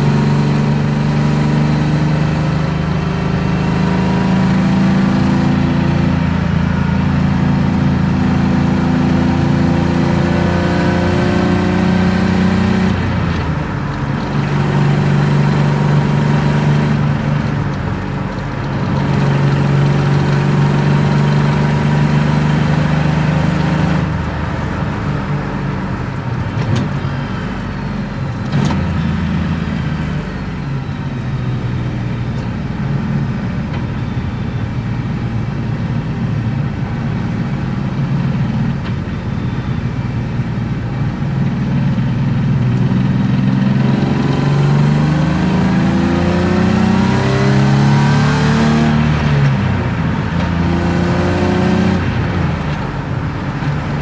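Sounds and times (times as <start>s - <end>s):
car engine under load: 0.0s - 54.0s
road noise: 0.0s - 54.0s.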